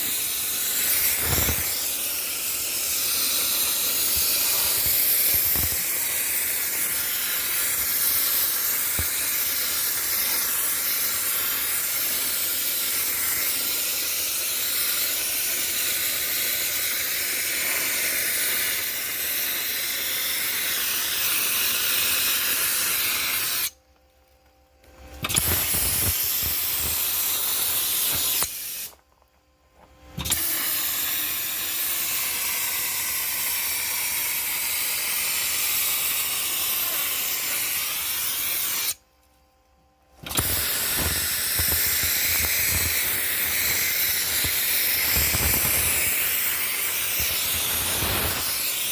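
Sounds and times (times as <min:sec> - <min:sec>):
dry ice blaster hissing: 0:00.0 - 0:23.8, 0:25.2 - 0:29.0, 0:30.2 - 0:39.0, 0:40.2 - 0:48.9.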